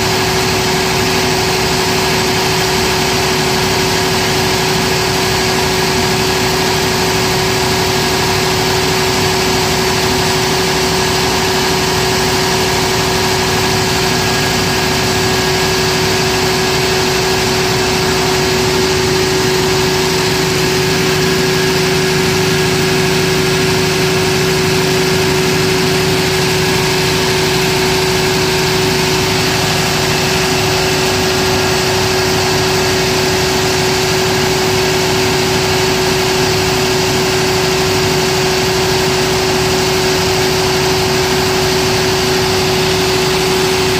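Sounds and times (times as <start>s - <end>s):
diesel generator engine drone: 0.0s - 43.9s
steady hum: 0.0s - 43.9s.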